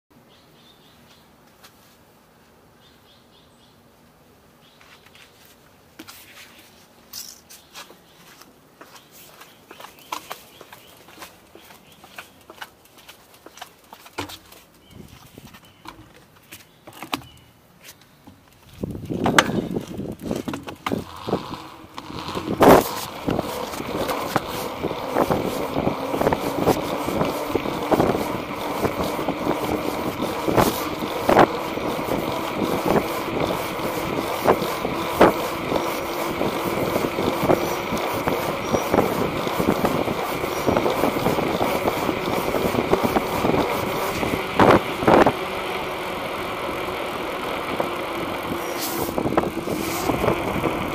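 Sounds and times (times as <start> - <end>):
bicycle tyres rolling on pavement: 8.0 - 17.4, 18.3 - 50.9
bicycle clacking over bumps: 8.8 - 17.4, 18.2 - 50.9.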